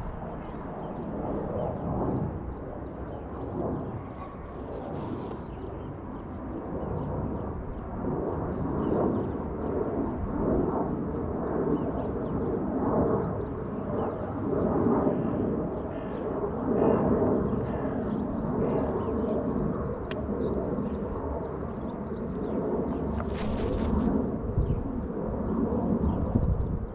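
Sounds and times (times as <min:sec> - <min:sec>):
small birds twittering: 0:00.3 - 0:07.9, 0:08.6 - 0:26.9.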